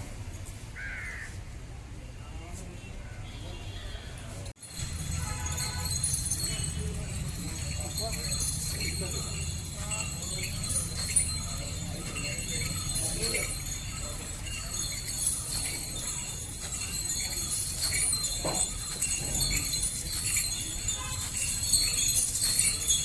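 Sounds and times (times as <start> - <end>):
metal bells jingling: 0.0 - 0.8, 4.1 - 23.0.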